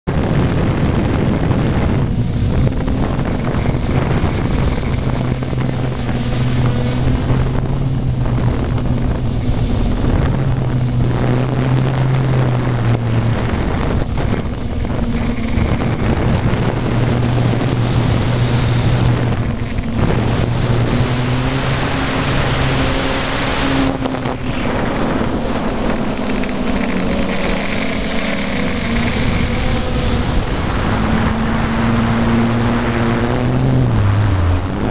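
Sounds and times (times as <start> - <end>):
drone motors humming: 0.1 - 34.9
rush of air: 0.1 - 34.9.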